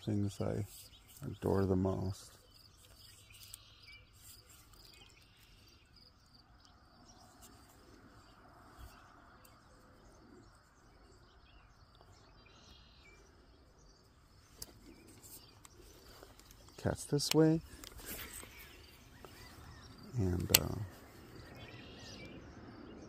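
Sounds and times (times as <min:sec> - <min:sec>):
faint bird chirps and calls: 0:00.0 - 0:23.0.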